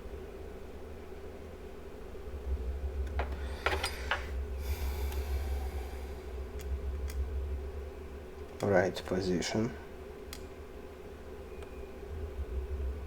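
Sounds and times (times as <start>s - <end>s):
low hum of bench equipment: 0.0s - 13.0s.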